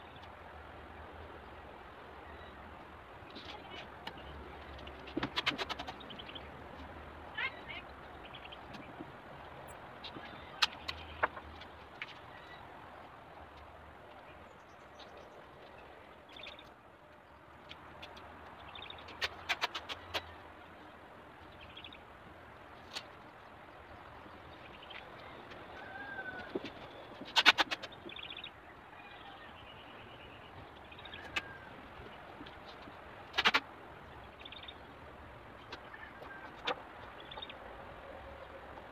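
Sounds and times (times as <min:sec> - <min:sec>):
birds chirping: 0:01.1 - 0:38.9.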